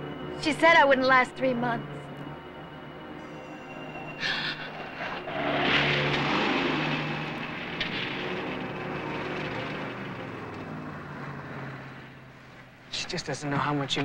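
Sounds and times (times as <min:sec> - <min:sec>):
road noise: 0:00.0 - 0:14.0
car engine: 0:01.6 - 0:14.0.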